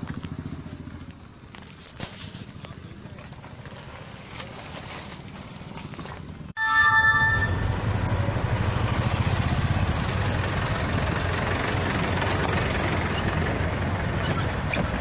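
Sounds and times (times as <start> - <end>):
heavy vehicle low rumble: 0.0 - 15.0.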